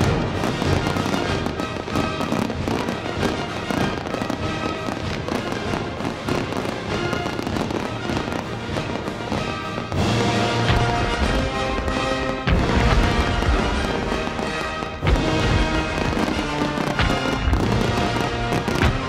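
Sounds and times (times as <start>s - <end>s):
fireworks crackling and popping: 0.0s - 19.0s
music playing: 0.0s - 19.0s.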